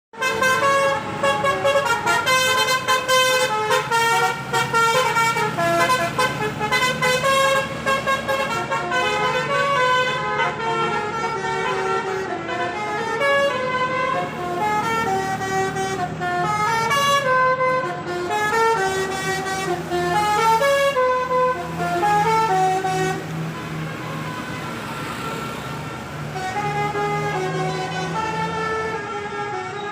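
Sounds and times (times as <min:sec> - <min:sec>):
musical air horn playing a tune: 0:00.2 - 0:29.9.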